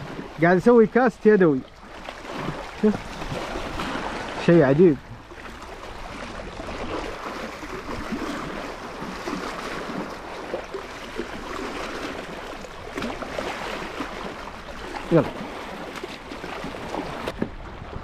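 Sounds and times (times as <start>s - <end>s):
shallow seawater lapping: 0.0s - 18.0s.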